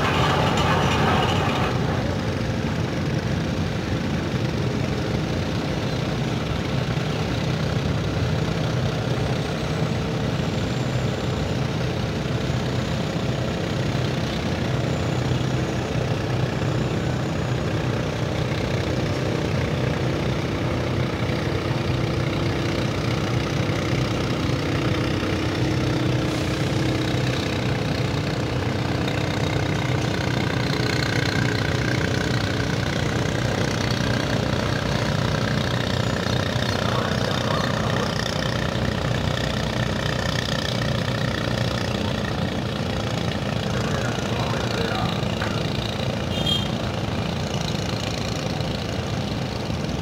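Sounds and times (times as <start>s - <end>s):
ship diesel engine drone: 0.0s - 50.0s.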